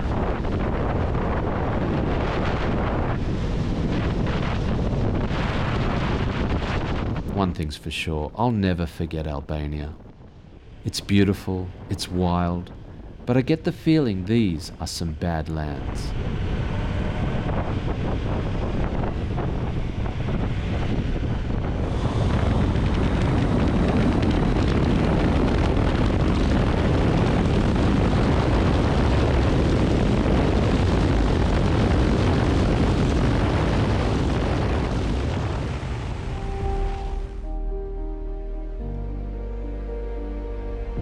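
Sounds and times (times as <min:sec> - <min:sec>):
wind rushing on microphone: 0:00.0 - 0:37.8.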